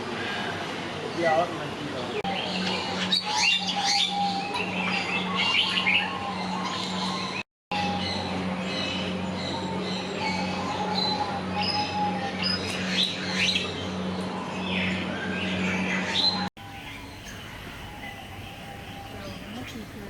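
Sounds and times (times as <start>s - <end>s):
birds chirping and squawking: 2.2s - 20.0s
steady low hum: 2.2s - 20.0s.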